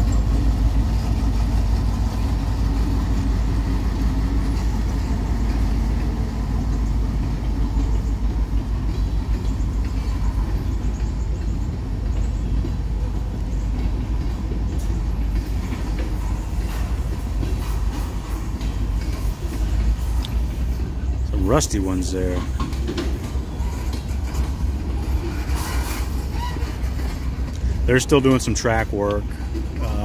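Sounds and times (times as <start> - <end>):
diesel locomotive engine rumbling: 0.0 - 30.0
train wheels rumbling on rail: 0.0 - 30.0.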